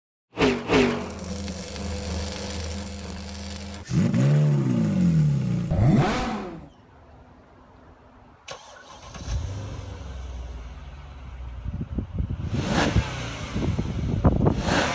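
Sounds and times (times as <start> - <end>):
car engine idling and revving: 0.4 - 6.7, 8.6 - 14.9.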